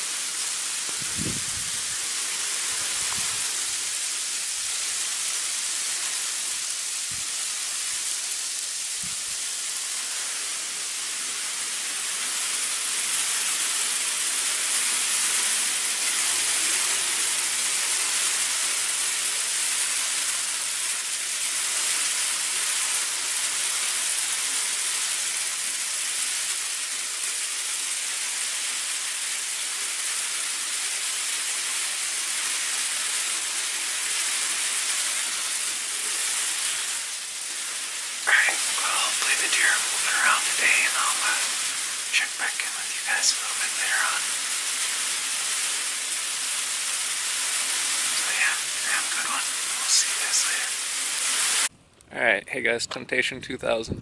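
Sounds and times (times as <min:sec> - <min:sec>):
snow pellets hissing on ground: 0:00.0 - 0:51.7.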